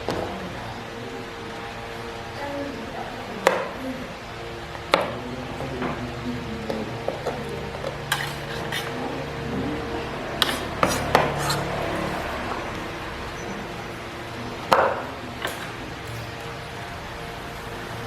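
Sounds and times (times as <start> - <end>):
steady low hum: 0.0 - 18.0
utensils clinking against a bowl: 0.0 - 18.0.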